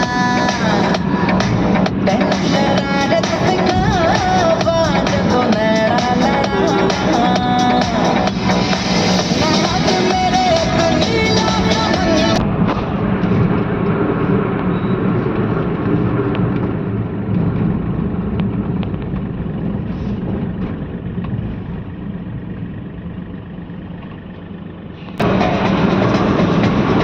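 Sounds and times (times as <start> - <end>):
road noise: 0.0 - 27.0
vehicle engine running: 0.0 - 27.0.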